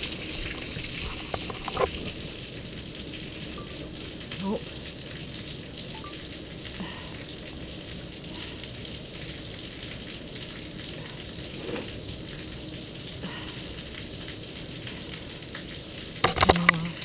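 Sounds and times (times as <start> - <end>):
heavy rain on pavement: 0.0 - 17.0.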